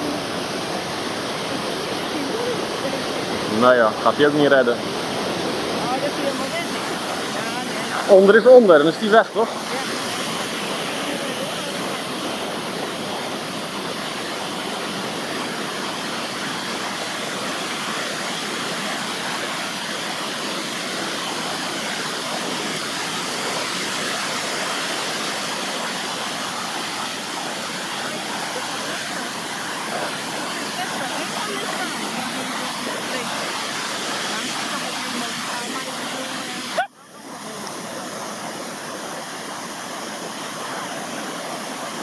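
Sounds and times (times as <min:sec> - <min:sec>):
surf washing onto beach: 0:00.0 - 0:42.0.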